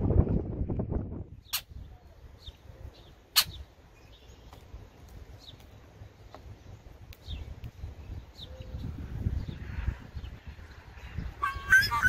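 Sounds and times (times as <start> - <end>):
birds chirping: 1.3 - 12.0.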